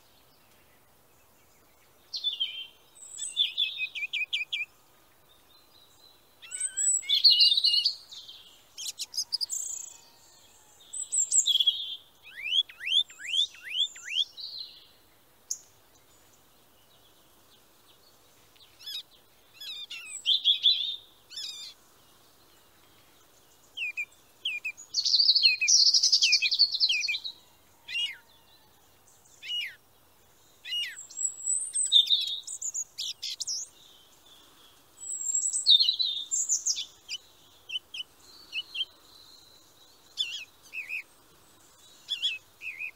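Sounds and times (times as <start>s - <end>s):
birds chirping and trilling: 0.0s - 42.9s.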